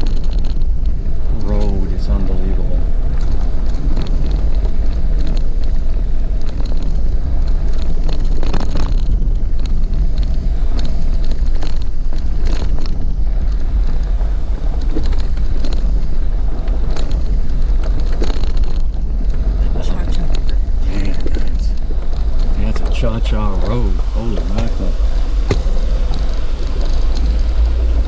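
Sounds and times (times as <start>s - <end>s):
vehicle rumbling on dirt road: 0.0s - 28.0s.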